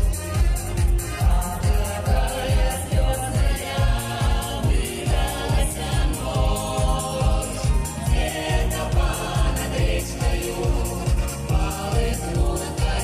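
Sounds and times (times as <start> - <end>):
amplified music with heavy bass drum: 0.0 - 13.0
men and women singing in harmony: 1.2 - 13.0.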